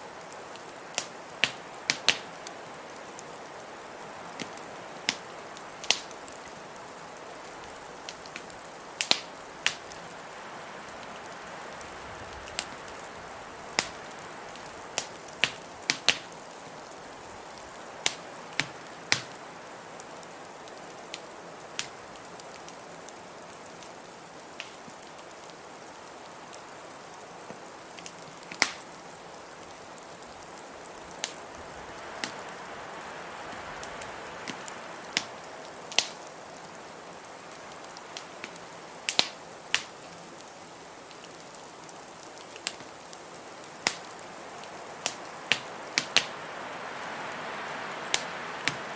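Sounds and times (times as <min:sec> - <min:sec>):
wood fire crackling and popping: 0:00.1 - 0:32.7, 0:33.5 - 0:46.8, 0:48.0 - 0:48.9.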